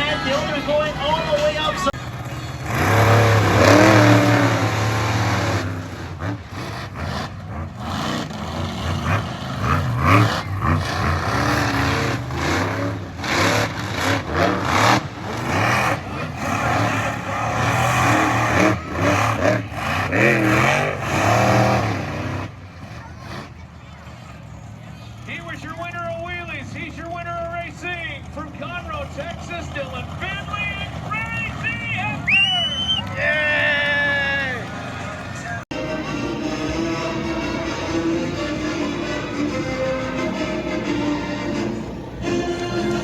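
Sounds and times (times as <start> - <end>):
monster truck engines revving: 0.0 - 43.0.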